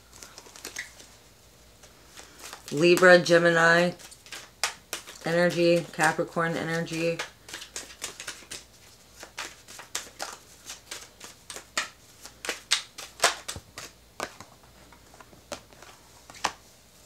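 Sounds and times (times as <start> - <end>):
cards being shuffled: 0.0 - 1.2, 1.8 - 16.6.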